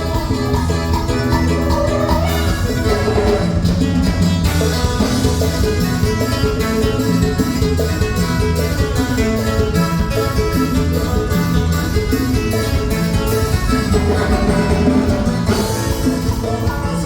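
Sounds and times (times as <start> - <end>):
dance band playing live: 0.0 - 17.0
guitar: 0.0 - 17.0.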